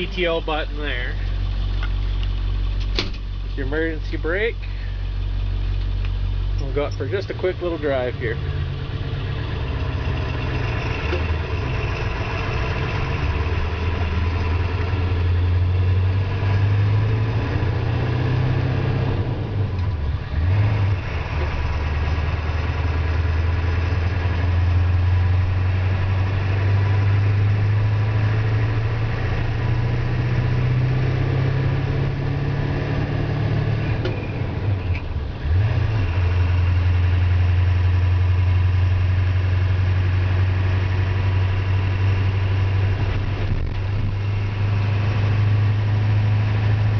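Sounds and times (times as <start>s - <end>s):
truck diesel engine pulling: 0.0s - 46.9s.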